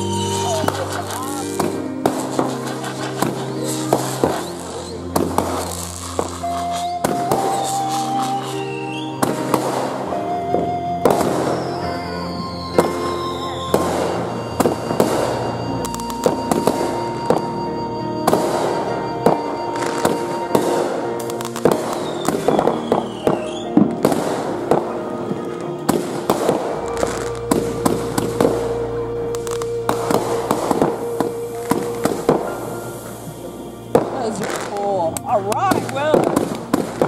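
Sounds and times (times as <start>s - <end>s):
fireworks bangs and crackles: 0.0s - 37.0s
music with long held notes: 0.0s - 37.0s.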